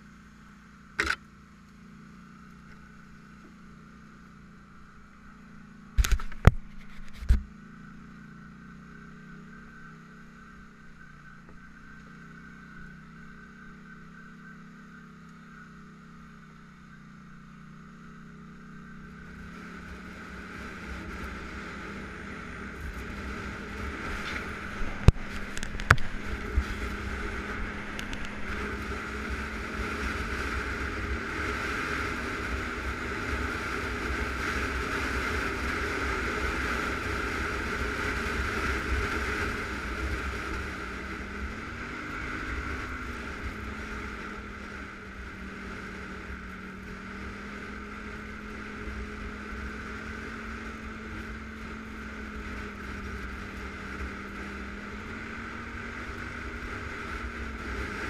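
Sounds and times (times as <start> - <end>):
atv engine running: 0.0 - 58.0
wind and road noise: 0.0 - 58.0.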